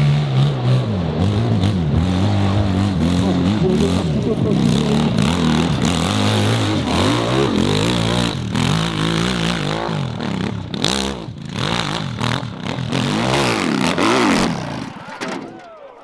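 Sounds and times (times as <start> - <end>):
racing motorcycle engines revving: 0.0 - 15.6.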